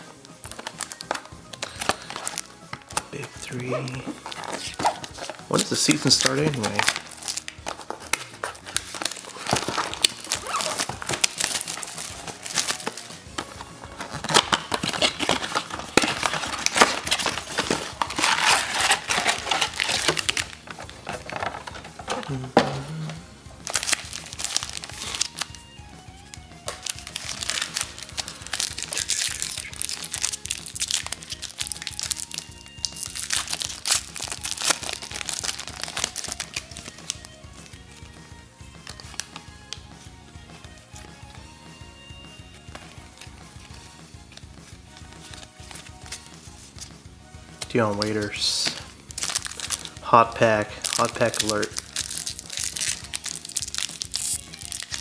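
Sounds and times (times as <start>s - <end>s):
faint music with steady tones: 0.0s - 55.0s
foil wrappers crinkling and tearing: 0.2s - 38.2s, 38.8s - 39.8s, 42.4s - 46.9s, 47.6s - 55.0s.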